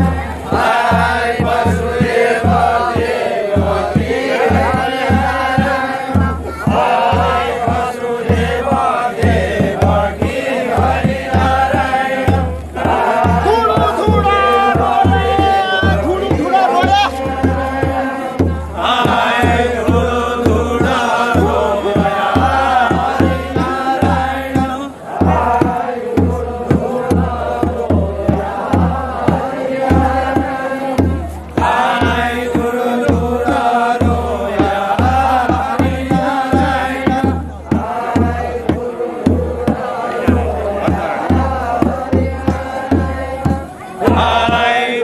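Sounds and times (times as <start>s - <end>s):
group singing folk song: 0.0s - 45.0s
hand-played barrel drum: 0.0s - 45.0s.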